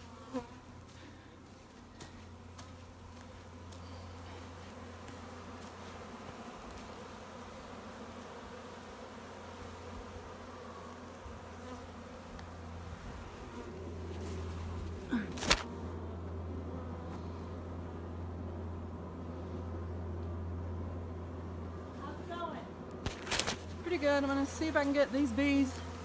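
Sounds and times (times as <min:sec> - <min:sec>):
bee swarm buzzing: 0:00.0 - 0:26.0.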